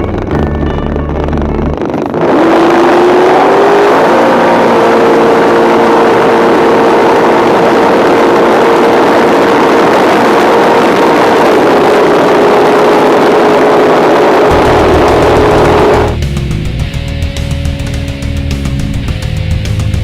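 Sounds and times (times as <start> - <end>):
boat engine at full throttle: 0.0 - 20.0
heavy rushing roar: 0.0 - 20.0.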